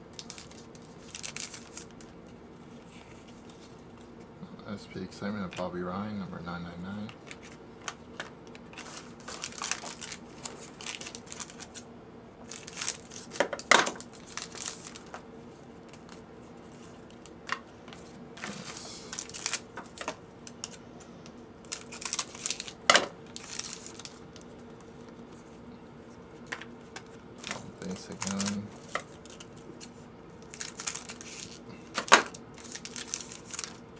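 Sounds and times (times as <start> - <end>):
foil wrappers crinkling and tearing: 0.0 - 3.8, 6.9 - 17.6, 18.4 - 20.8, 21.6 - 25.5, 26.4 - 33.9.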